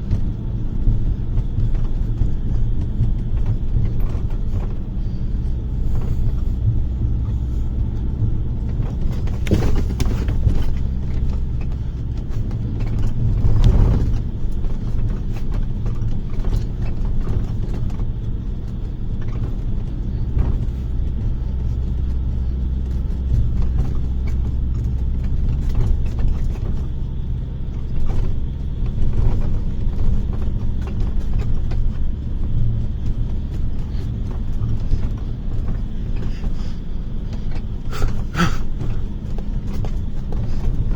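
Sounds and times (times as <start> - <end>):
bus engine and road rumble: 0.0 - 40.9
rattles and creaks: 0.0 - 40.9.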